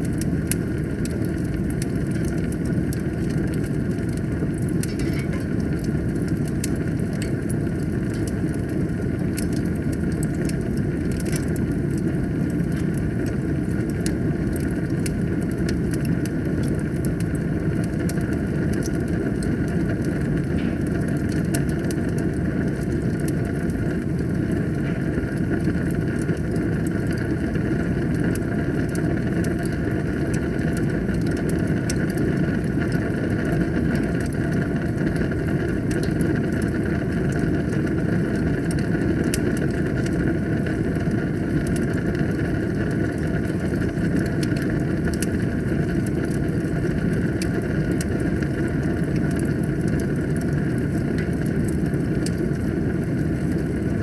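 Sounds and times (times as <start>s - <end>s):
fire roaring and crackling: 0.0s - 54.0s.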